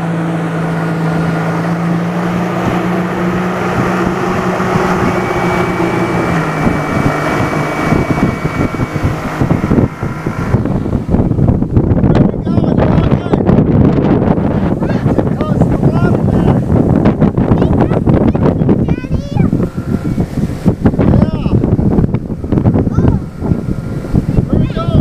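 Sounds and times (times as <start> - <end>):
outboard motor running: 0.0 - 25.0
rush of boat wake: 0.0 - 25.0
wind buffeting microphone: 0.0 - 25.0.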